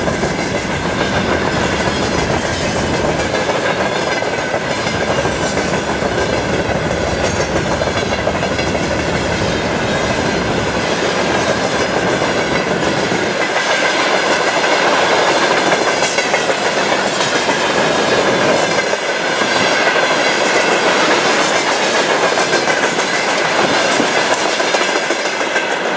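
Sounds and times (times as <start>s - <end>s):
steel wheels clattering on rails: 0.0s - 25.9s.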